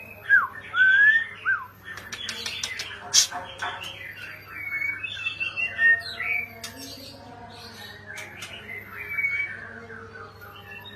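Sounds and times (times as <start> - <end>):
bird singing warbled phrases: 0.0 - 10.9.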